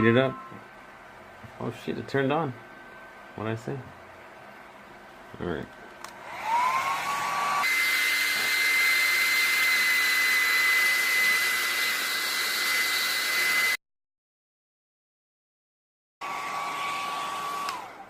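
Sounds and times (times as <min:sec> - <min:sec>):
hot-air blower whining: 0:00.0 - 0:13.8, 0:16.2 - 0:18.0.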